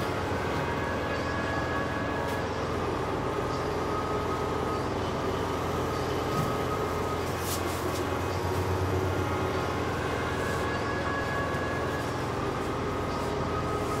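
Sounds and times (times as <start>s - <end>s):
machine hum and hiss: 0.0s - 14.0s.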